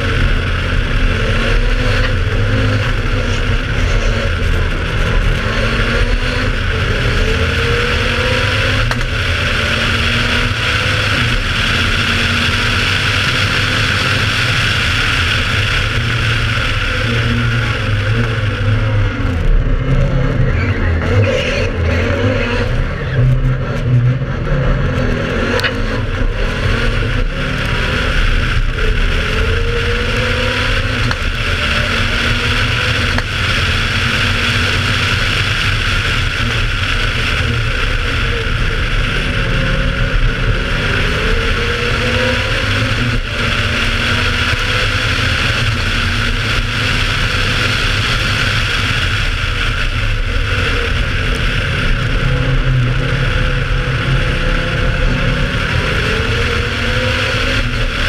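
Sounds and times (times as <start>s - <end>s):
rally car engine accelerating: 0.0s - 58.0s.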